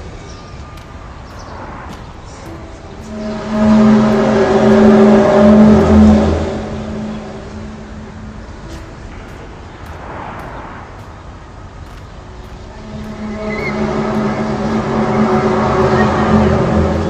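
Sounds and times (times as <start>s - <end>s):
low droning hum: 0.0s - 17.0s
rushing background noise: 0.0s - 17.0s.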